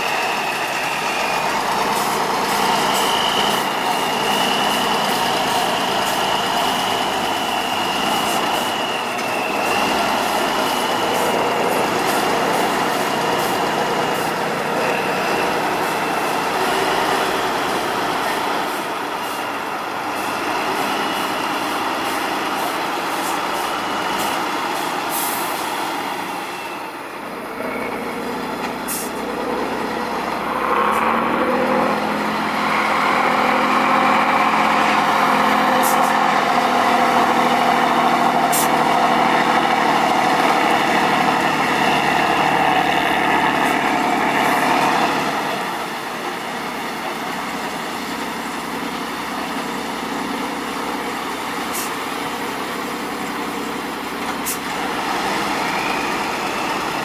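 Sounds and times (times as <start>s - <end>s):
diesel truck engine under load: 0.0s - 57.0s.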